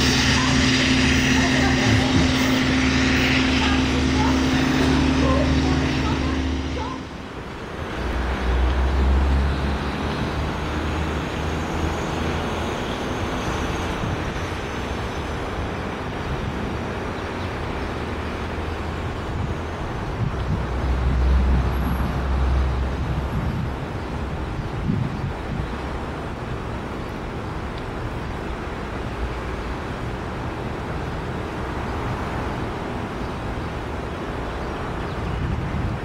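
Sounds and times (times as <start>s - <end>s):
diesel locomotive engine rumble: 0.0s - 36.0s
steady rushing noise: 0.0s - 36.0s.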